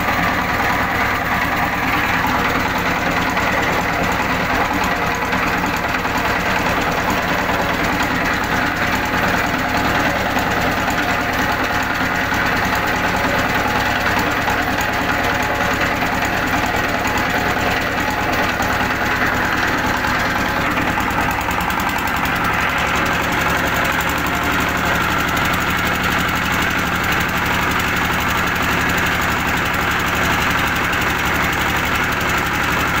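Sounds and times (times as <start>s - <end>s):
diesel engine knocking: 0.0s - 33.0s.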